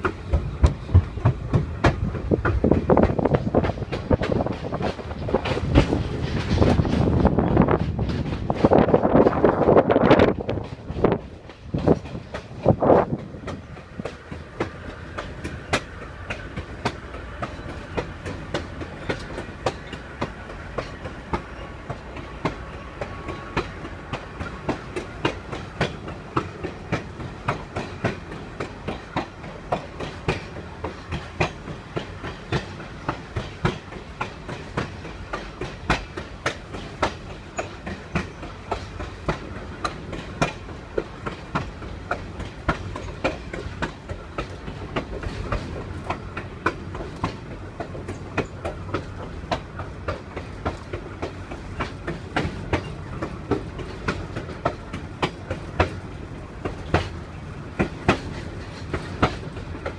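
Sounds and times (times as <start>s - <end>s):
train rumbling with clickety-clack: 0.0s - 59.9s.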